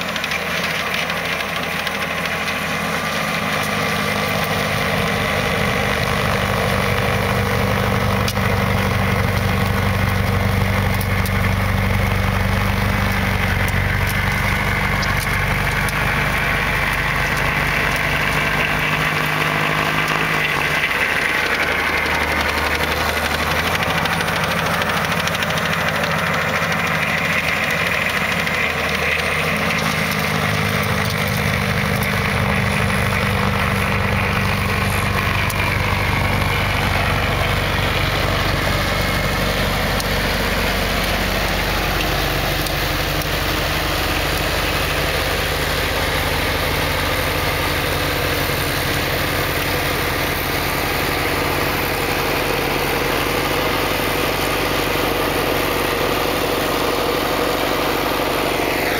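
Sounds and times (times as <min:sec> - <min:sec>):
snowblower throwing snow: 0:00.0 - 0:58.9
tractor diesel engine running: 0:00.0 - 0:58.9.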